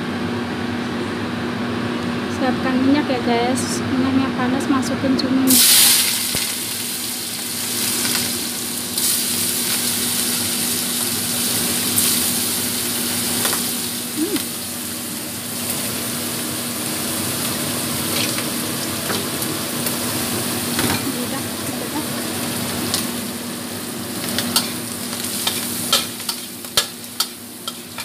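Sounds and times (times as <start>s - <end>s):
food sizzling in hot oil: 5.5s - 28.0s.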